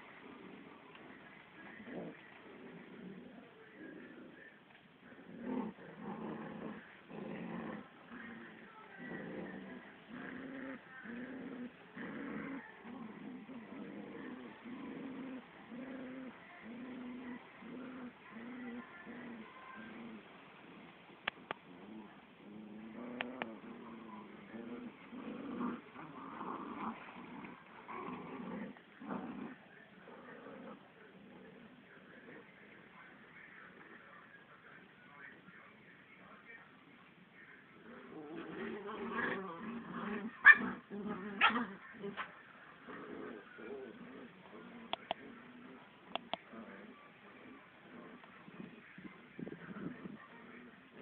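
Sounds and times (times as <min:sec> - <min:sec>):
dog growling: 0:00.0 - 0:32.9, 0:37.8 - 0:51.0.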